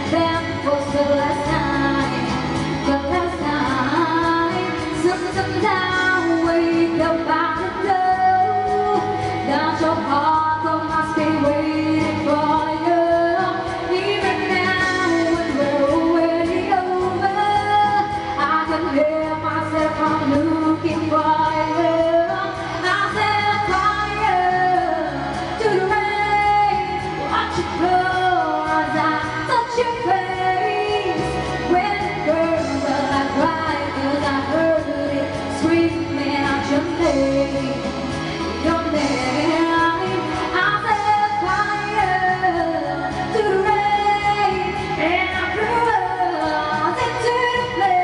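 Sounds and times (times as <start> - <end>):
person singing pop ballad: 0.0 - 48.0.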